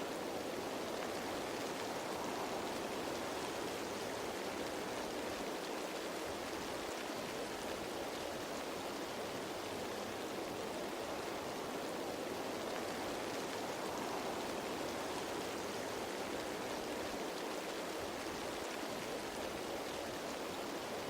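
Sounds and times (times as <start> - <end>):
rain falling on leaves: 0.0 - 21.0.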